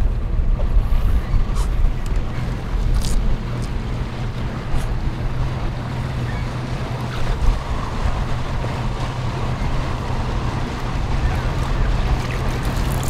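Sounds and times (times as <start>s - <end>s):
motorboat engine hum: 0.0s - 13.0s
water noise: 0.0s - 13.0s
wind buffeting microphone: 0.0s - 13.0s.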